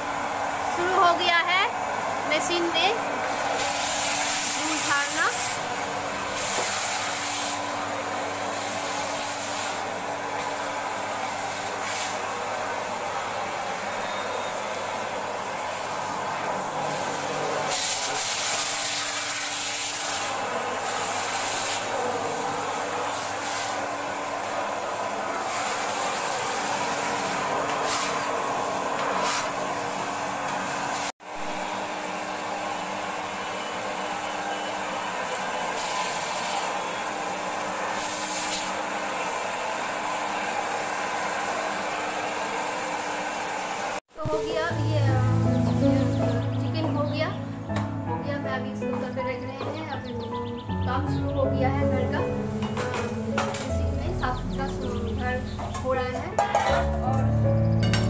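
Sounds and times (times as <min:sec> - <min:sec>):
vacuum cleaner running: 0:00.0 - 0:49.0, 0:51.9 - 0:58.0.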